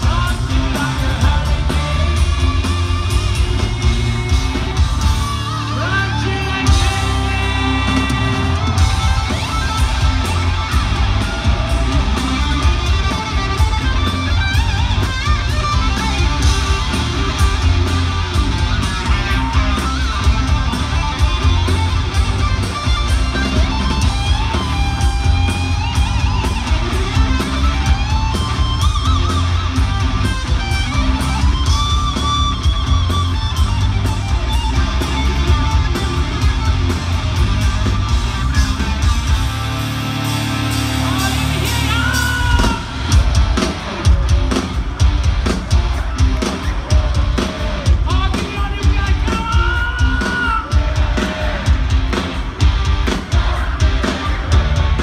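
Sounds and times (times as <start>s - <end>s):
bass: 0.0s - 55.0s
pounding drums: 0.0s - 55.0s.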